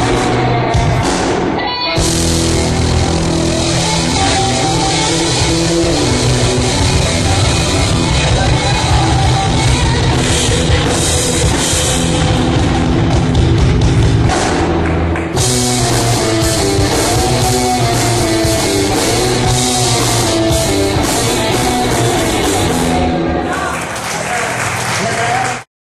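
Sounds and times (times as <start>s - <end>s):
bass guitar: 0.0s - 24.1s
drum kit: 0.0s - 24.1s
electric guitar: 0.0s - 24.1s.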